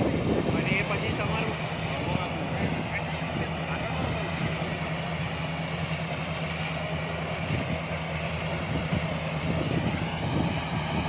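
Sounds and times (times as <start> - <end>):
harvester engine running: 0.0 - 11.0.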